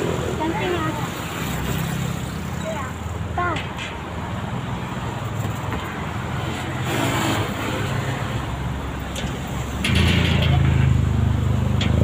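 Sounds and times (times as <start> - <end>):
engine hum: 0.0 - 12.0
road noise: 0.0 - 12.0.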